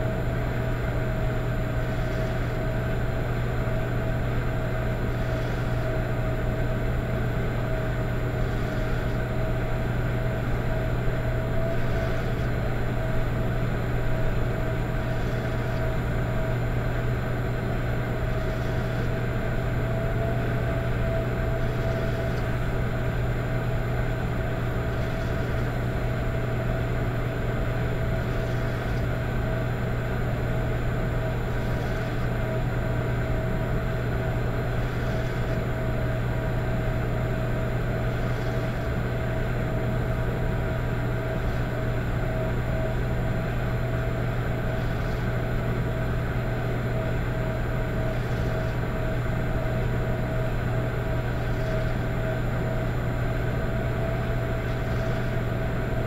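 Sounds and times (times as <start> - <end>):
electric fireplace hum: 0.0 - 56.0.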